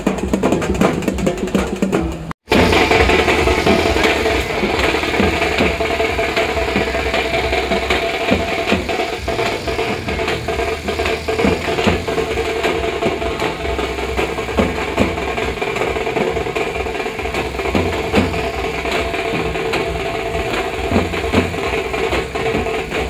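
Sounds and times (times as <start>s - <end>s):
drums beating fast: 0.0s - 23.0s
droning tone: 2.5s - 23.0s.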